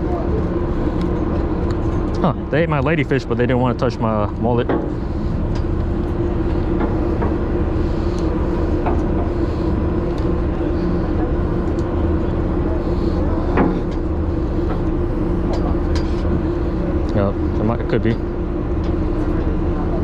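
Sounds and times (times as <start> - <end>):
machinery humming: 0.0 - 20.0.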